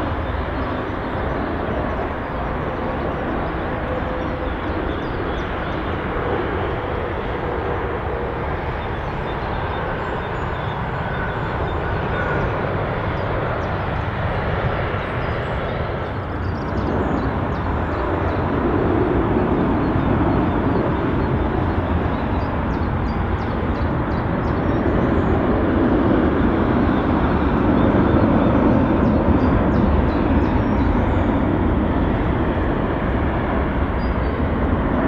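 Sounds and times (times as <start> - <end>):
jet airliner engine rumble: 0.0 - 35.0.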